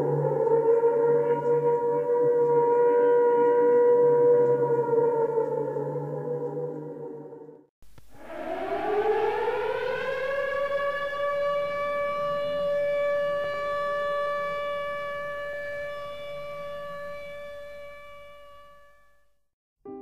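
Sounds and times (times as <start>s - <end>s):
air-raid siren wailing: 0.0s - 7.5s, 8.1s - 19.2s.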